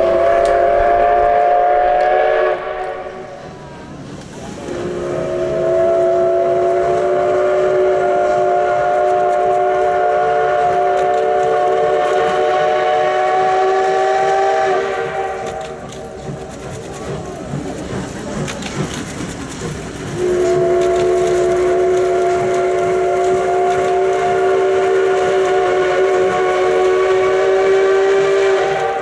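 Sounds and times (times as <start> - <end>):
steam whistle blasts: 0.0 - 3.6, 4.6 - 16.2, 20.2 - 29.0.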